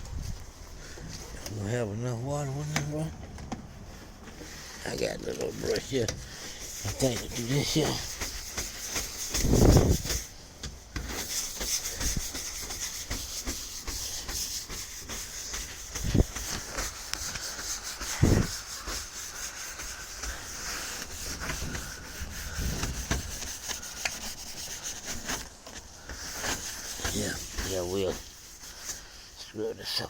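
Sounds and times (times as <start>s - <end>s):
hand brush scrubbing: 3.9s - 30.0s.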